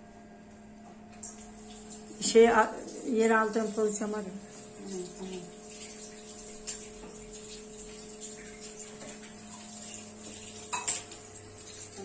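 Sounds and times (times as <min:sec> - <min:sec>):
oven humming: 0:00.0 - 0:12.0.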